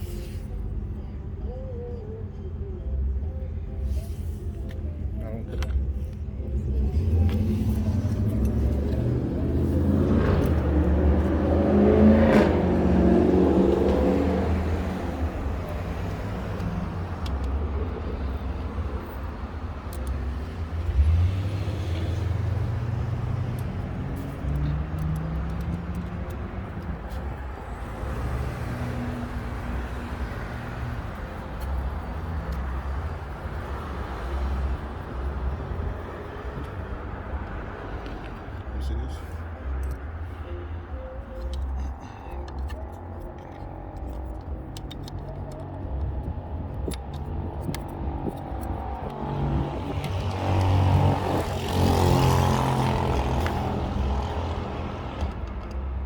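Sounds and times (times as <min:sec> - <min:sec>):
vehicle engine rumble: 0:00.0 - 0:56.0.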